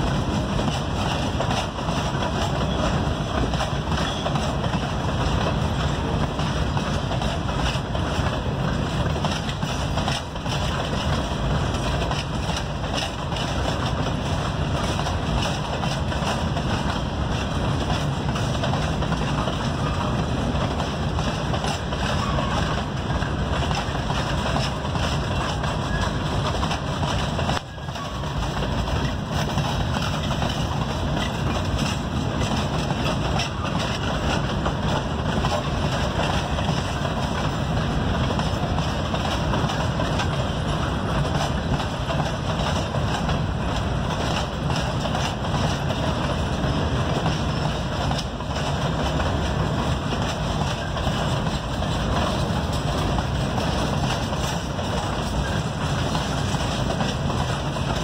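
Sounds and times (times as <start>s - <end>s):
steel train wheels on rails: 0.0s - 58.0s.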